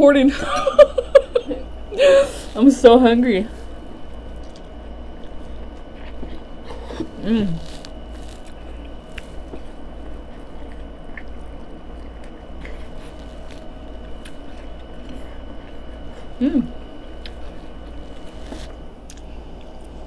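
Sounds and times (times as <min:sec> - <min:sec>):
low hum: 0:00.0 - 0:20.0
person chewing: 0:03.9 - 0:20.0.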